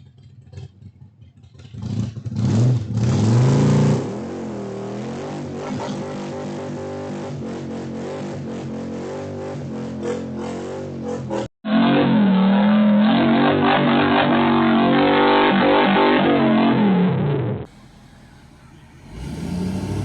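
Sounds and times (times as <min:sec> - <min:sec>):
vehicle engine revving: 0:00.5 - 0:20.0.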